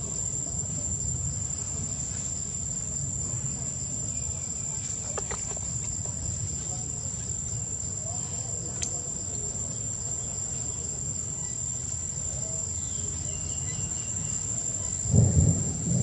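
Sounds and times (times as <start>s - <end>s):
insects whining: 0.0s - 16.0s.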